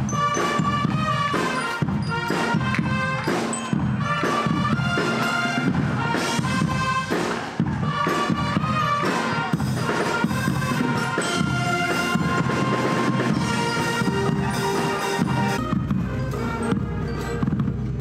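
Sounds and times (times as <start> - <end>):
drum beats: 0.0 - 18.0
wind and brass chords: 0.0 - 18.0.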